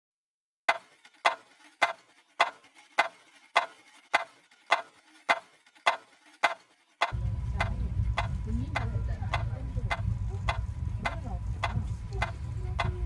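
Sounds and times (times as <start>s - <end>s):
clock ticking: 0.7s - 13.0s.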